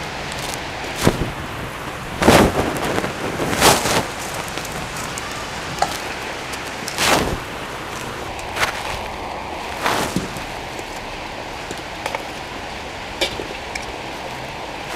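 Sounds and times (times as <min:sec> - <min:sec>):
stick raking through embers: 0:00.0 - 0:14.9
wood fire hissing: 0:00.0 - 0:14.9.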